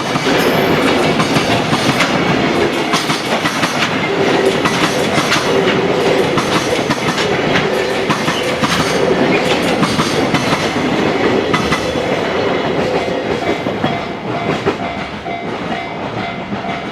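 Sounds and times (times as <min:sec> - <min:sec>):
freight train rolling past: 0:00.0 - 0:16.9
wheels clacking over rail joints: 0:00.0 - 0:16.9.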